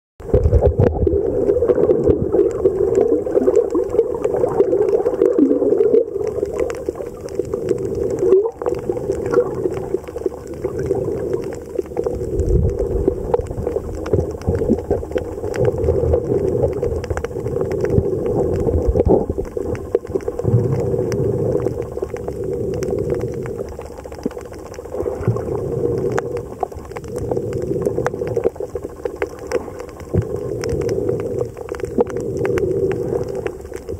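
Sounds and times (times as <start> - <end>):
crackling clicks: 0.2 - 33.9
low rumbling: 0.2 - 33.9
muffled underwater hum: 0.2 - 33.9.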